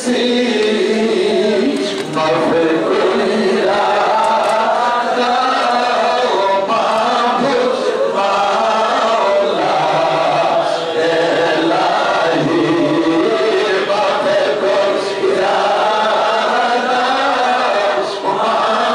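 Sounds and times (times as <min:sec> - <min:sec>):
man chanting a prayer: 0:00.0 - 0:15.6.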